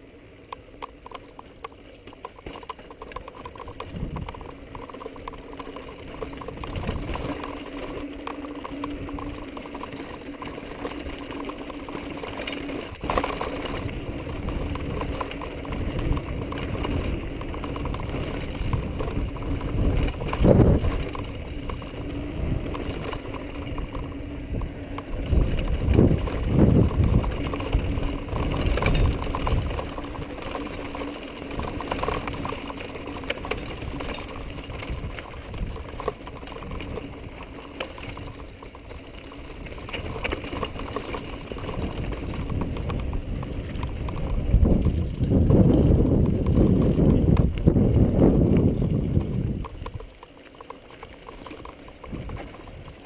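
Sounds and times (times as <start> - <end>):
bike rattling: 0.0 - 53.0
tyres crunching over rocks: 0.6 - 53.0.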